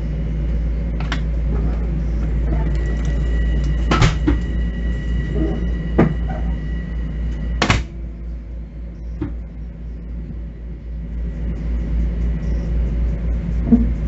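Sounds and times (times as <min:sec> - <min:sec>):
high whine: 0:00.0 - 0:14.0
train ride rumble: 0:00.0 - 0:14.0.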